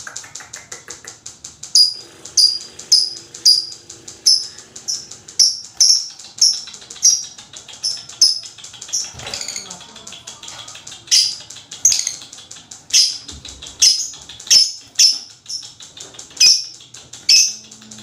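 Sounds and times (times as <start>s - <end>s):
lovebird chirping and chattering: 1.7s - 18.0s.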